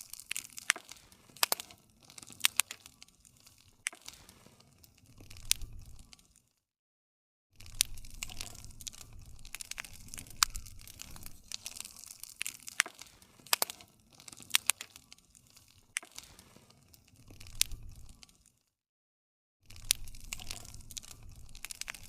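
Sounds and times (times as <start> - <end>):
wood fire crackling: 0.0 - 6.6, 7.6 - 18.6, 19.7 - 22.0.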